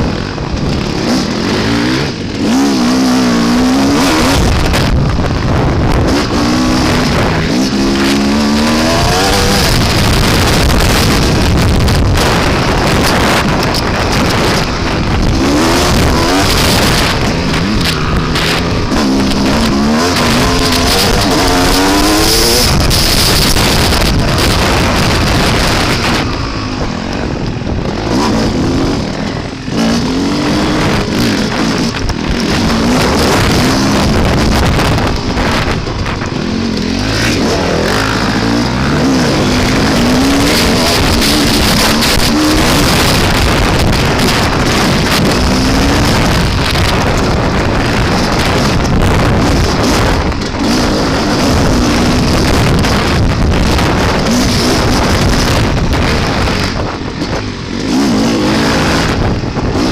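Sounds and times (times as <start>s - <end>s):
dirt bike engine revving: 0.0s - 59.9s
wind buffeting microphone: 0.0s - 59.9s.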